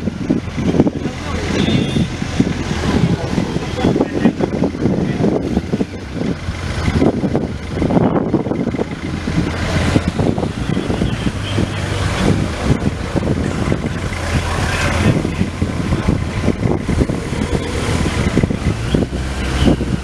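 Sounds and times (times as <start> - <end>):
motorcycle and car engines humming: 0.0 - 20.0
street noise: 0.0 - 20.0.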